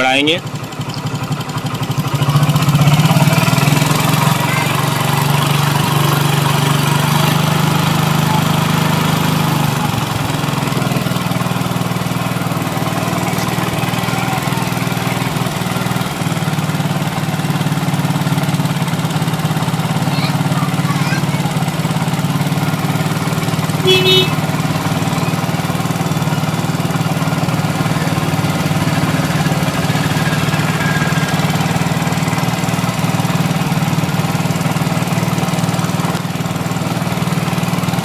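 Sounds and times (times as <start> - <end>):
motorcycle engine fast idle: 0.0 - 38.0.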